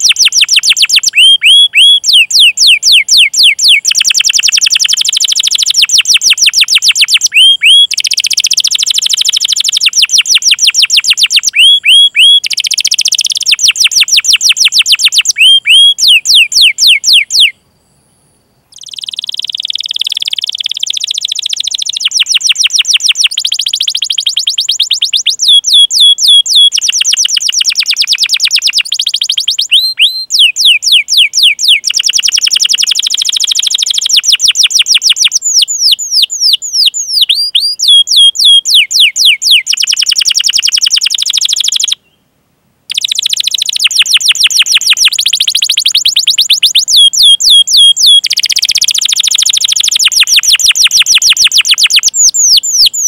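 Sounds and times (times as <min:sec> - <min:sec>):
canary singing rolling trills: 0:00.0 - 0:17.6, 0:18.7 - 0:42.2, 0:42.9 - 0:53.0.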